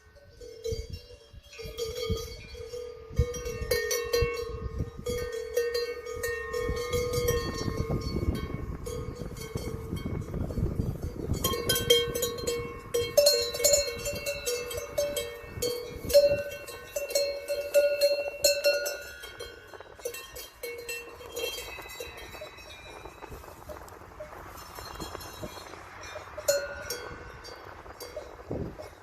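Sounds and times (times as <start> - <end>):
cowbells clanking: 0.0 - 29.0.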